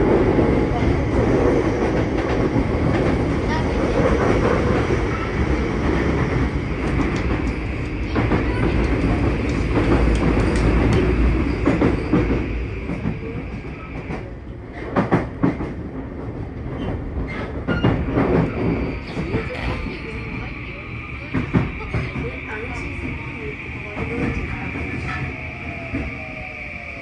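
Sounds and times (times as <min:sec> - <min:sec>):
train wheels and motors rumbling: 0:00.0 - 0:27.0.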